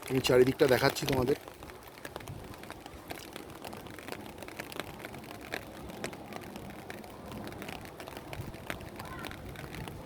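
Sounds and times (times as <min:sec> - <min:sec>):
gusty wind: 0:00.0 - 0:10.0
raindrops ticking on umbrella: 0:00.0 - 0:10.0.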